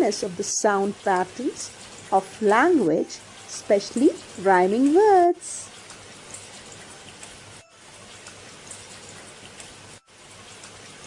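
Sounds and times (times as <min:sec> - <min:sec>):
steady rain patter: 0:00.0 - 0:11.0.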